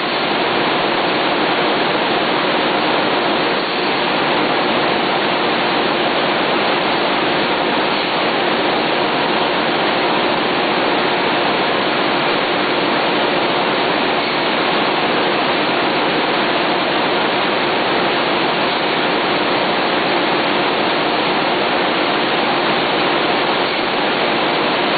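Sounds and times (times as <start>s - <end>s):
printing press roaring: 0.0s - 24.9s.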